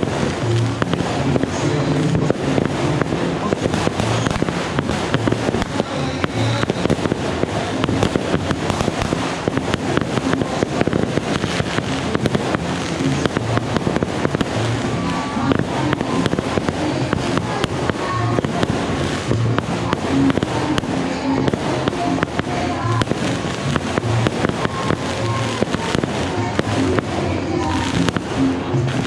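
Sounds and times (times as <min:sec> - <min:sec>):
fireworks bursting and crackling: 0:00.0 - 0:29.0
music playing: 0:00.0 - 0:29.0.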